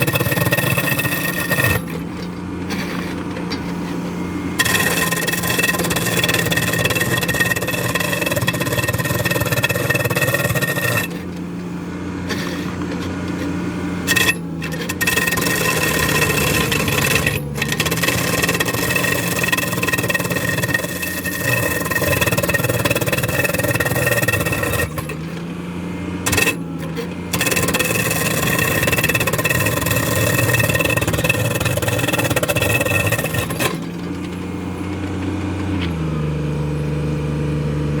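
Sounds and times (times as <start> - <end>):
diesel engine running: 0.0 - 38.0
grinding concrete: 0.0 - 38.0.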